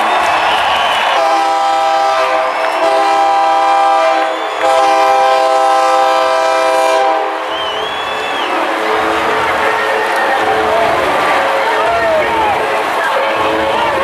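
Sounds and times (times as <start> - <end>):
multi-tone horn blasts: 1.1 - 14.0.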